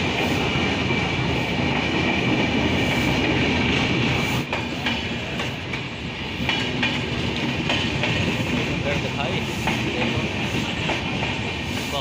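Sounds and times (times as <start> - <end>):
train coaches rumbling past: 0.0 - 12.0
wheels clacking over rail joints: 0.0 - 12.0.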